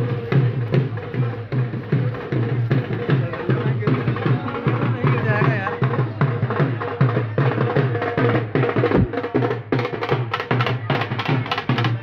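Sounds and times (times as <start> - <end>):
drums playing fast beat: 0.0 - 12.0.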